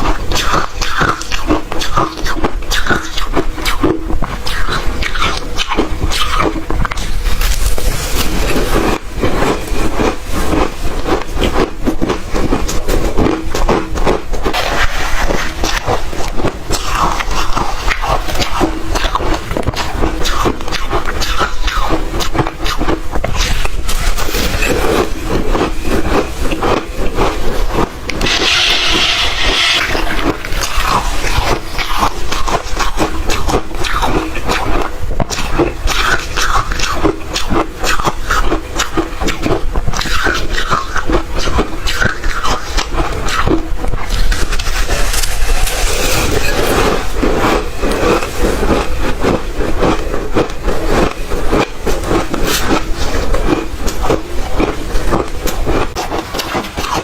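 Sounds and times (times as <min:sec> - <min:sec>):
chewing ice crunching: 0:00.0 - 0:28.3, 0:29.6 - 0:57.0.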